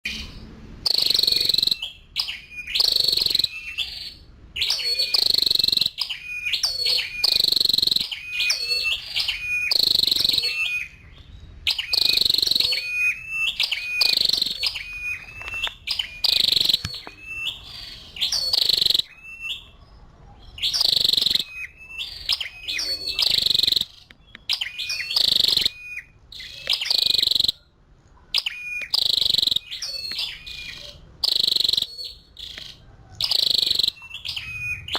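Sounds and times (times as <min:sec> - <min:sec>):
bird calling in sharp high chips: 0:00.1 - 0:19.8, 0:20.5 - 0:27.7, 0:28.4 - 0:34.9.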